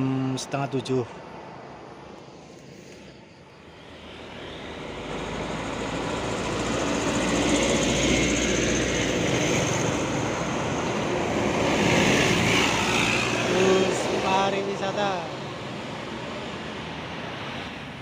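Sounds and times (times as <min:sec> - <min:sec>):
bus engine and tyre noise: 0:00.0 - 0:18.0.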